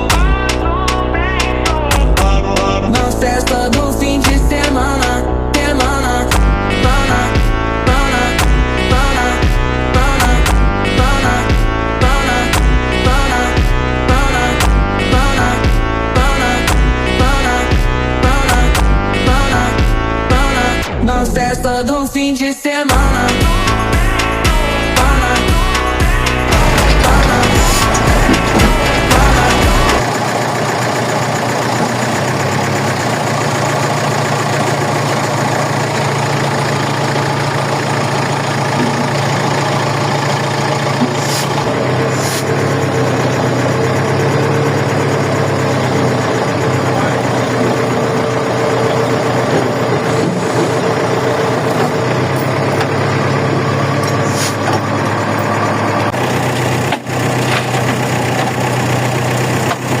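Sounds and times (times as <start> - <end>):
crane engine running: 0.0 - 60.0.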